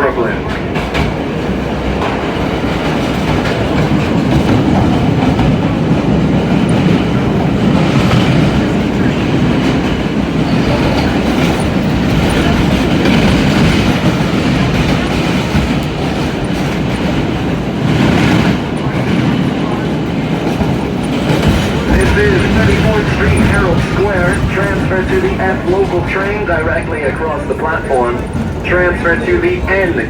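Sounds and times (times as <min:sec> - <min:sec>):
subway wheels rumbling on rail: 0:00.0 - 0:30.0.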